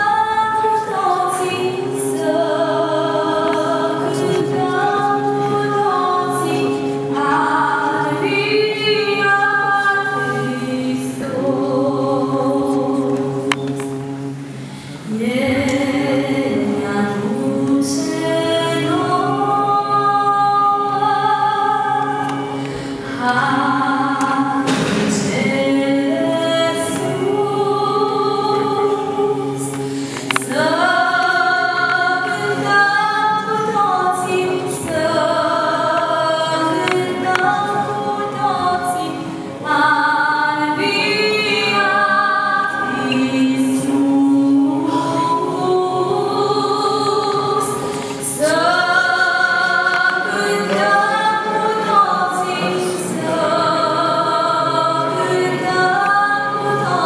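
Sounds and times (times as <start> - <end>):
woman singing a slow religious song: 0.0 - 14.2, 15.0 - 57.0
voices singing in harmony: 0.0 - 57.0.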